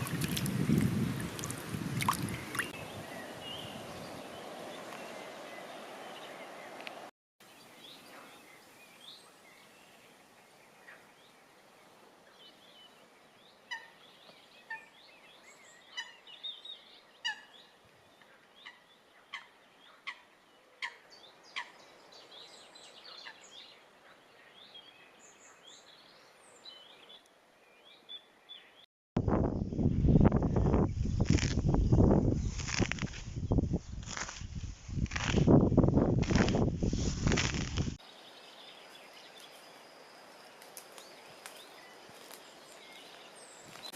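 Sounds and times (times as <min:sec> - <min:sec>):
birds chirping and twittering: 0:02.1 - 0:28.9, 0:35.1 - 0:43.9.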